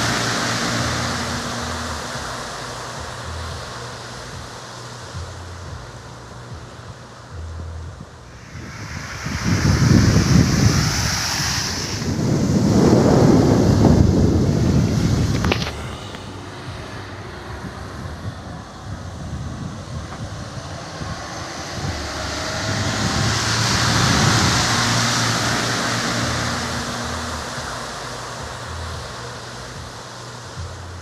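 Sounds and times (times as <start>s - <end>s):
vehicle engine running: 0.0s - 31.0s
wind rushing across microphone: 0.0s - 31.0s.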